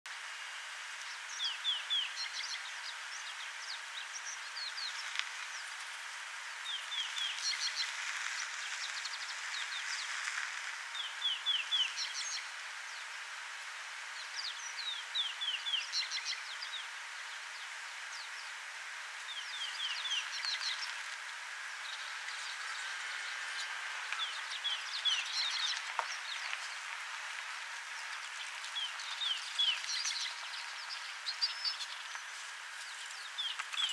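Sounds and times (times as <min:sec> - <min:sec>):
steady outdoor hiss: 0:00.1 - 0:33.9
birds calling: 0:01.0 - 0:33.9.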